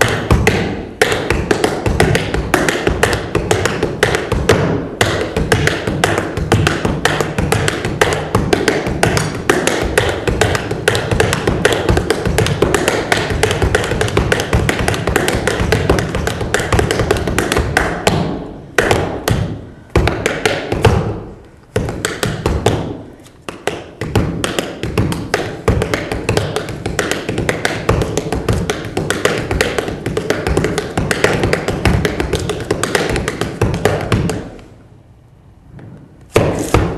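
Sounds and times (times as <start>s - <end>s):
tap shoes on hard floor: 0.0s - 34.7s.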